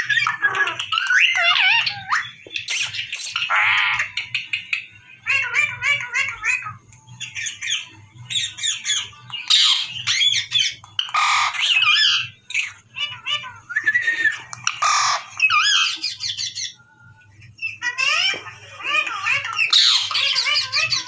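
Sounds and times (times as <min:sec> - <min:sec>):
parrot squawking and chattering: 0:00.0 - 0:16.8, 0:17.7 - 0:21.0.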